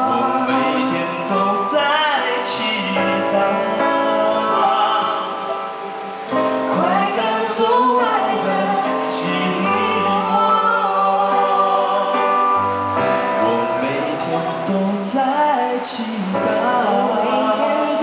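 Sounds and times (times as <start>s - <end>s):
person singing: 0.0s - 5.7s, 6.3s - 18.0s
keyboard chords: 0.0s - 18.0s.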